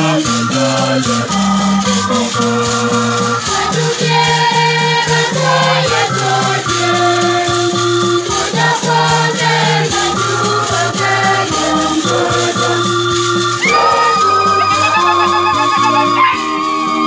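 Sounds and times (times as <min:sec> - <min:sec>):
choir singing: 0:00.0 - 0:17.0
electronic keyboard: 0:00.0 - 0:17.0.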